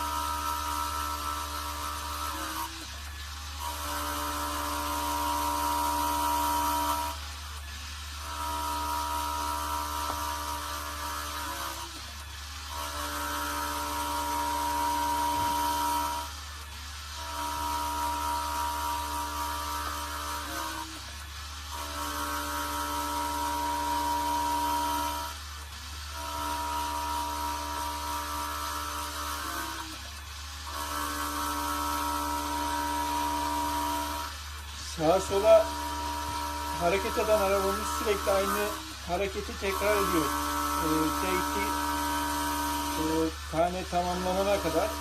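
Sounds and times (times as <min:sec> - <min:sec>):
machine motor whining: 0:00.0 - 0:45.0.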